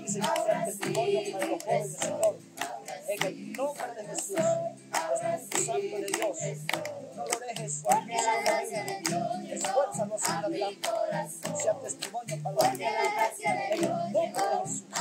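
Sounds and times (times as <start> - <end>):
hands clapping: 0.0 - 15.0
worship song with accompaniment: 0.0 - 15.0.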